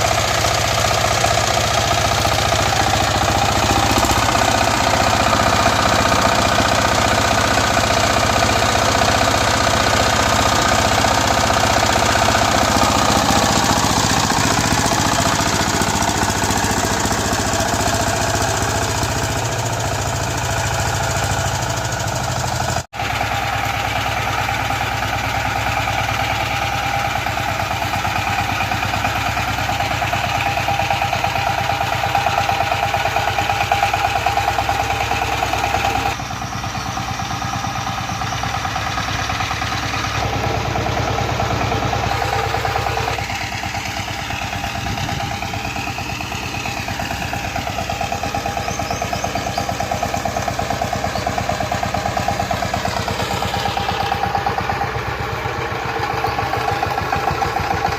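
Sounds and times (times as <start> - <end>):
tiller engine running: 0.0 - 57.9.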